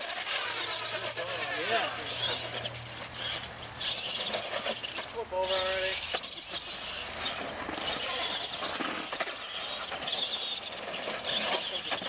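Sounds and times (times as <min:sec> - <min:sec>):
toy truck motor whir: 0:00.0 - 0:12.0
tyres scrabbling on dirt: 0:00.0 - 0:12.0.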